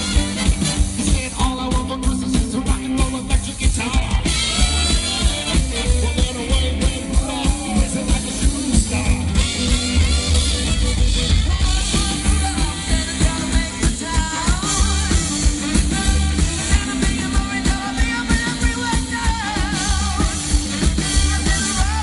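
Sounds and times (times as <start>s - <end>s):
bass and drums beat: 0.0s - 22.0s
big band playing swing: 0.0s - 22.0s.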